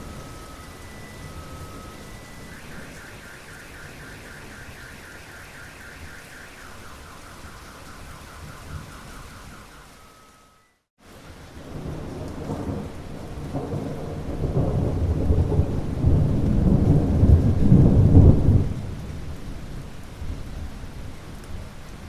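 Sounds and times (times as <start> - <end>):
thunder rolling: 0.0 - 10.0, 11.6 - 19.3
steady rain: 0.0 - 22.0.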